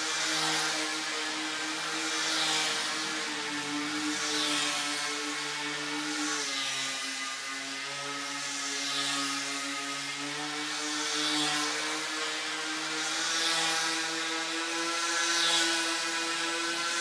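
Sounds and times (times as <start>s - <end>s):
model airplane motor whining: 0.0s - 17.0s.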